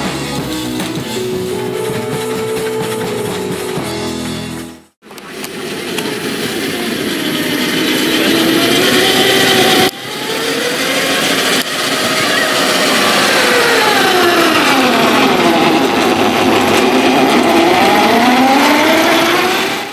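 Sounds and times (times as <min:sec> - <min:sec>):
miniature locomotive whine: 0:00.0 - 0:19.9.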